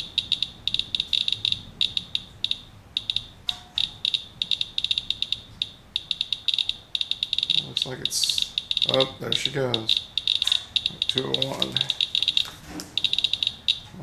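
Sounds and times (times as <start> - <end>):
geiger counter chirping: 0.0 - 14.0.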